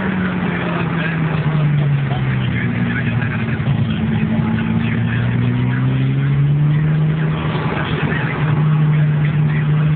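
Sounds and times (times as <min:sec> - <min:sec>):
car engine running at speed: 0:00.0 - 0:09.9.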